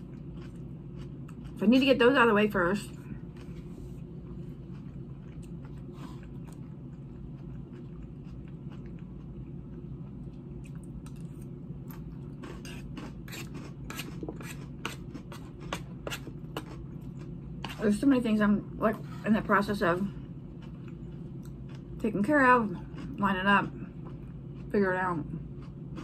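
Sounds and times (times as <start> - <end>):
person chewing crunchy salad: 0.0 - 1.9, 2.9 - 17.8, 20.1 - 22.0, 22.6 - 24.7, 25.4 - 26.0.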